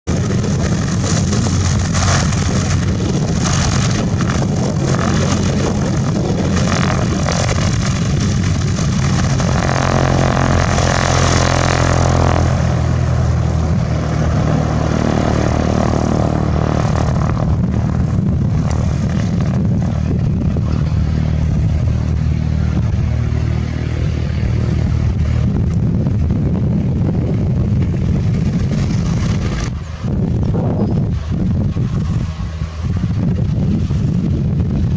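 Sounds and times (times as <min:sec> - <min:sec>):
propeller plane engine droning: 0:00.0 - 0:34.9.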